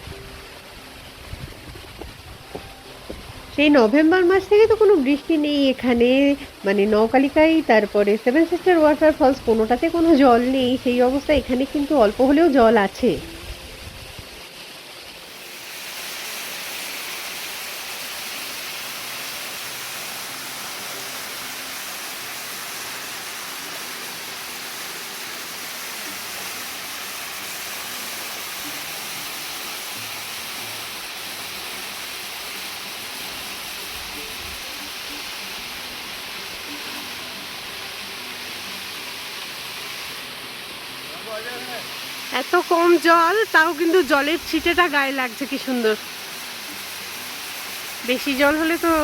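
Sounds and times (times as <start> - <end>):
small waterfall splashing: 0.0 - 49.0.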